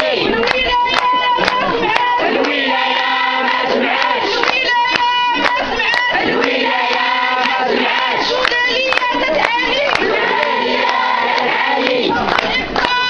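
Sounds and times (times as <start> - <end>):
crowd chanting slogans: 0.0 - 13.0
sharp rhythmic beats: 0.0 - 13.0.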